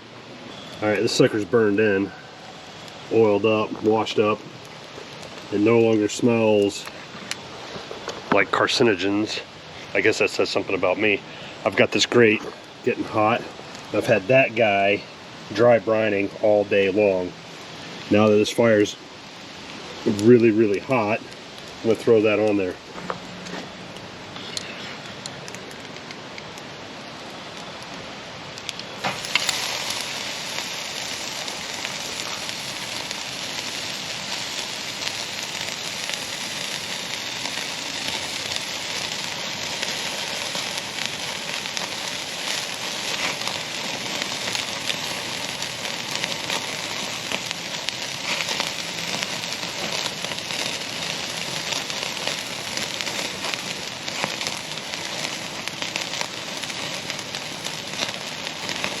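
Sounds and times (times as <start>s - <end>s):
steak sizzling on grill: 0.0s - 25.8s, 28.6s - 59.0s
charcoal fire crackling: 0.0s - 59.0s.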